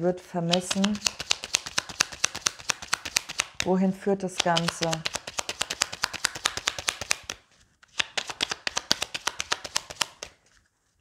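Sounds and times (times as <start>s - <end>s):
cards being shuffled: 0.5s - 3.7s, 4.4s - 11.0s.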